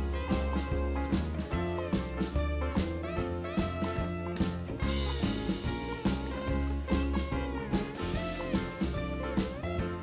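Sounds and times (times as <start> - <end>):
upbeat jazzy music with brass: 0.0 - 10.0.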